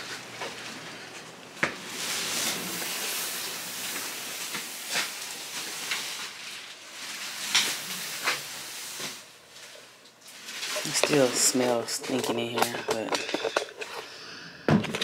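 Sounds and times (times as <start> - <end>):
steady hiss: 0.0 - 14.7.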